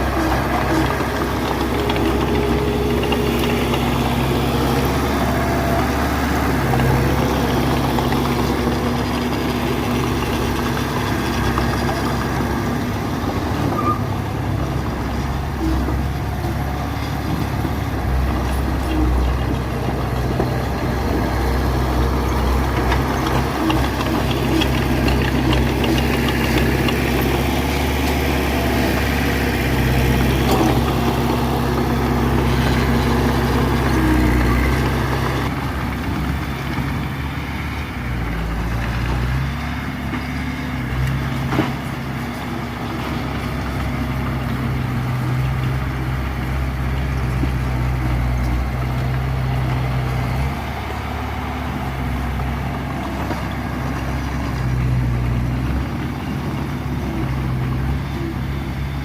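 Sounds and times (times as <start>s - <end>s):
earthmoving machinery diesel engines: 0.0s - 59.0s.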